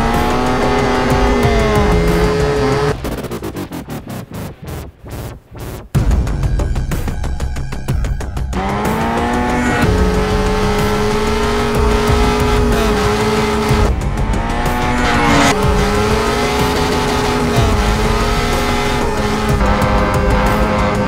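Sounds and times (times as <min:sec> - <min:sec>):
racing engines at high revs: 0:00.0 - 0:05.9, 0:08.5 - 0:21.0.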